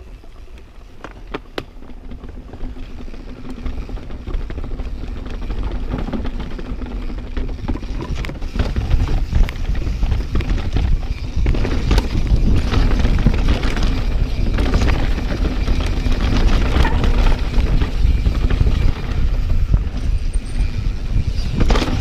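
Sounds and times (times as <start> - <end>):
bike knocking and rattling: 0.0 - 22.0
tyre noise on dirt: 0.0 - 22.0
wind rumble on microphone: 1.0 - 22.0.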